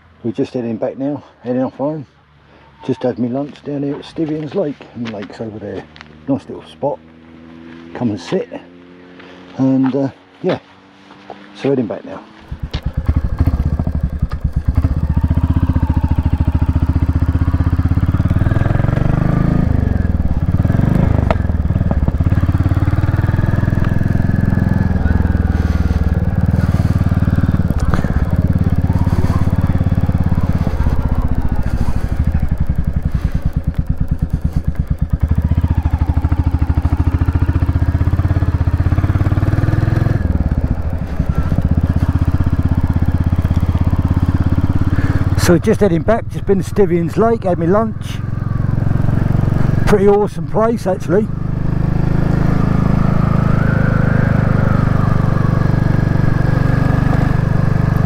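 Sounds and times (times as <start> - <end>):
motorcycle engine revving: 5.4 - 58.0.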